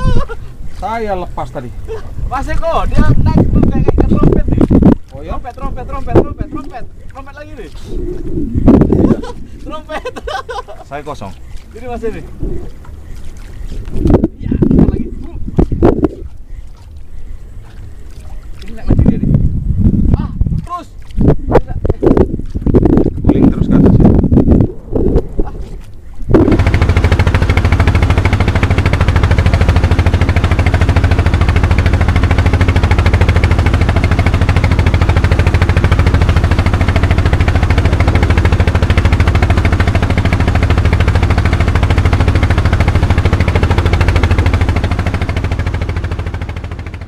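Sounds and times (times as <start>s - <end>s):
boat engine pulsing: 0.0s - 47.0s
water rushing along hull: 0.0s - 47.0s.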